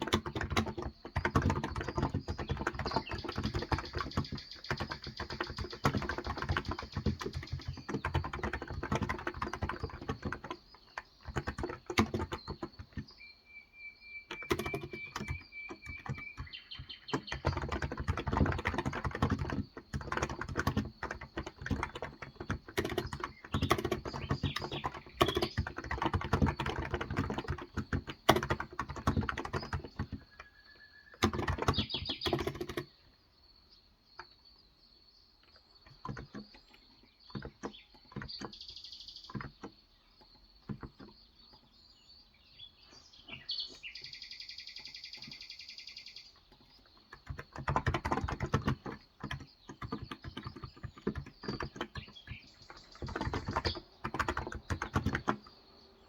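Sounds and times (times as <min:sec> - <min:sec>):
fast typing on keyboard: 0:00.0 - 0:13.2, 0:14.3 - 0:32.9, 0:35.8 - 0:39.8, 0:40.6 - 0:41.2, 0:46.4 - 0:55.7
bird chirping: 0:00.0 - 0:56.0.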